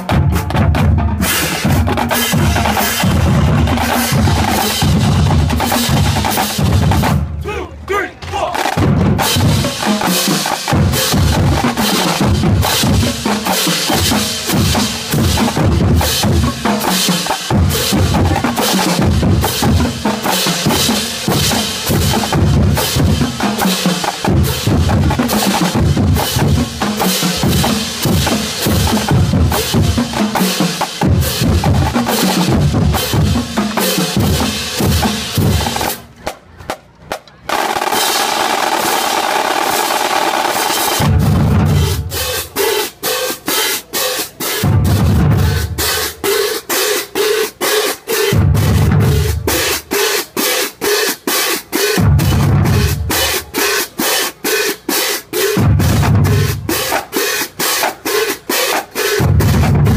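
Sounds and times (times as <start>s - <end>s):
drumline playing snare and bass drums: 0.0s - 59.9s.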